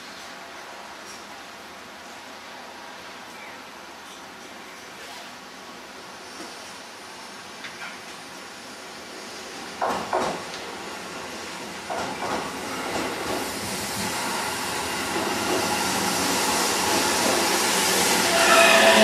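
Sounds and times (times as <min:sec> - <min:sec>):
electric train rumble and hiss: 0:00.1 - 0:19.0.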